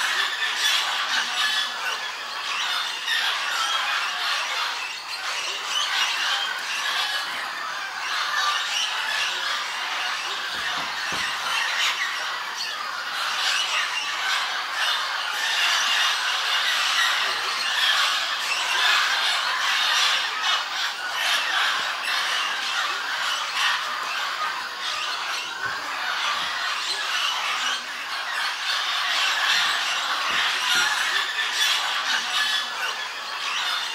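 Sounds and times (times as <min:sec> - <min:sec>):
parrots squawking and screeching: 0:00.0 - 0:33.9.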